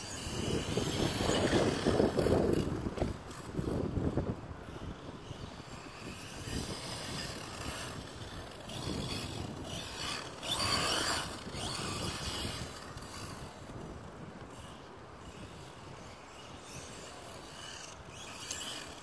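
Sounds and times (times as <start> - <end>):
toy truck motor whirring: 0.0 - 19.0.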